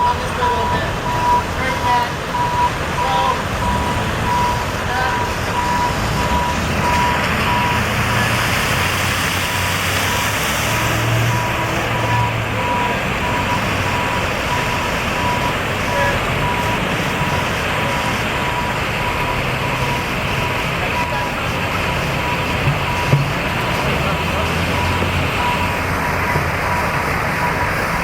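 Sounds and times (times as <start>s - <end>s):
floodwater rushing in river: 0.0s - 28.0s.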